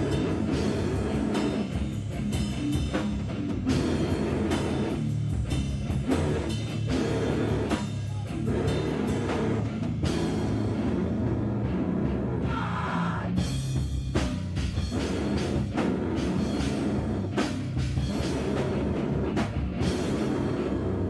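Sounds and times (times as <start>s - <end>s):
loud rock band playing: 0.0s - 21.0s.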